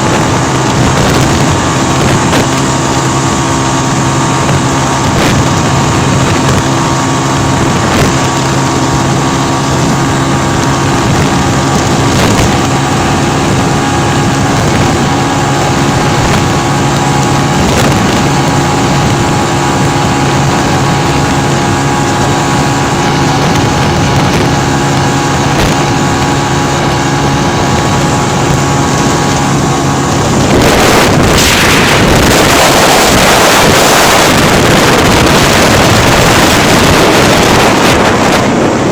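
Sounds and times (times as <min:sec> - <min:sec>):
motorcycle engine at high revs: 0:00.0 - 0:38.9
wind buffeting microphone: 0:00.0 - 0:38.9.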